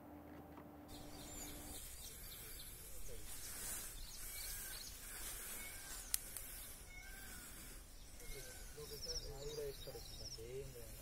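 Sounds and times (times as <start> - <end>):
bird chirping: 0.9 - 11.0
faint high hiss: 0.9 - 11.0.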